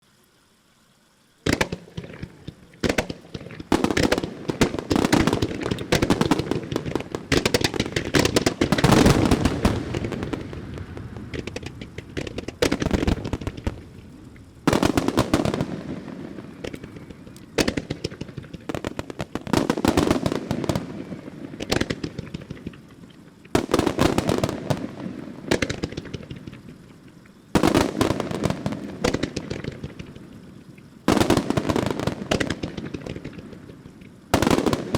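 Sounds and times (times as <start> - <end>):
crackling fireworks reports: 1.3 - 34.9
fireworks launching and bursting: 1.4 - 34.9.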